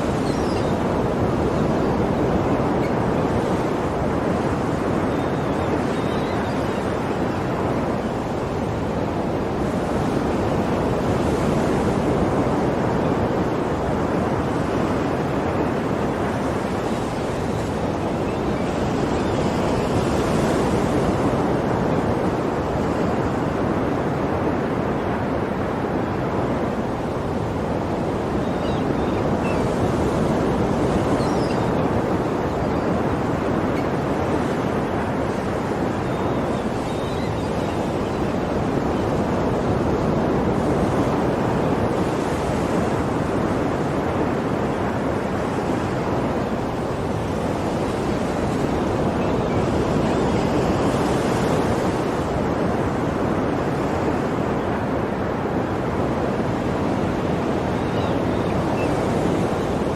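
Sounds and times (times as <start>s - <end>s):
ocean waves breaking on shore: 0.0s - 59.9s
wind: 0.0s - 59.9s.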